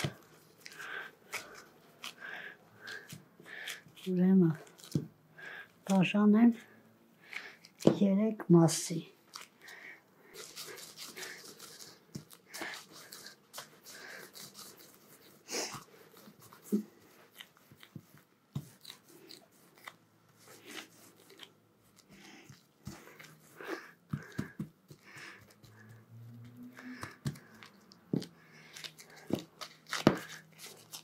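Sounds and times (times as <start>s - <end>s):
gloved hands rolling sticky dough: 0.0s - 31.0s.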